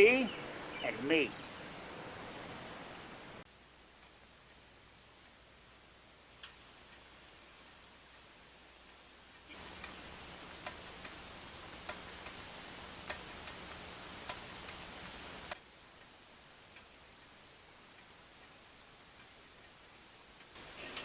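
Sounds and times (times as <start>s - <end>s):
steady hiss: 0.0s - 21.0s
faint ticking clicks: 3.5s - 21.0s.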